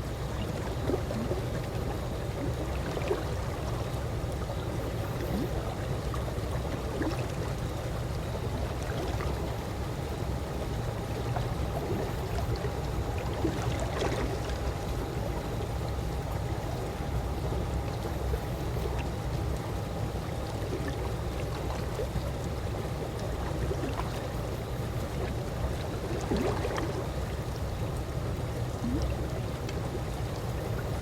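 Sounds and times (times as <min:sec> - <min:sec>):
pool water lapping: 0:00.0 - 0:31.0.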